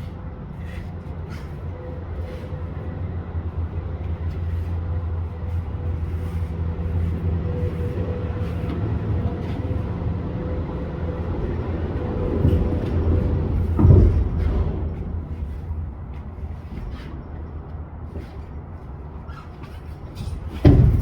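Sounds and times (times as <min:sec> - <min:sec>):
diesel truck engine running: 0:00.0 - 0:18.2.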